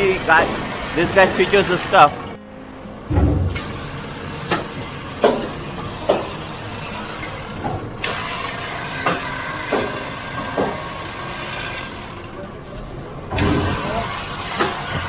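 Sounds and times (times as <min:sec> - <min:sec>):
machine knocks and clacks: 0:00.0 - 0:01.8, 0:03.1 - 0:12.2, 0:13.3 - 0:15.0
machine hum: 0:00.0 - 0:15.0.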